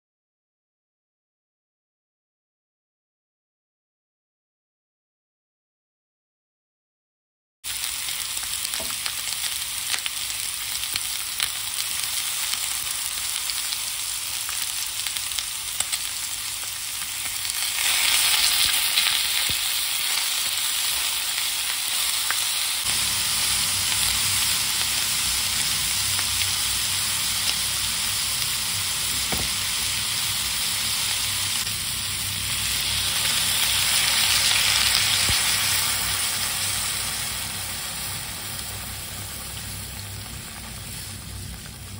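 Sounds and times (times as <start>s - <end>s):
meat sizzling in a frying pan: 7.7s - 41.9s.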